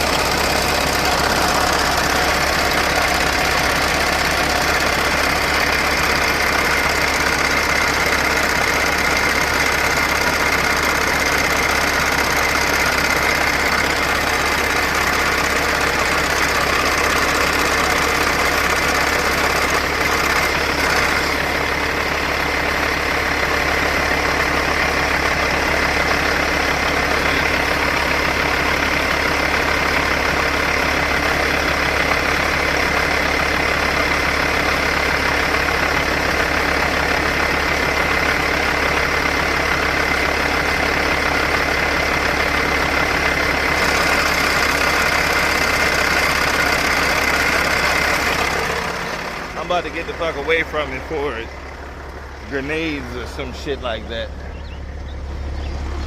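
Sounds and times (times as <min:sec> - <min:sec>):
diesel engine idling with clatter: 0:00.0 - 0:56.0.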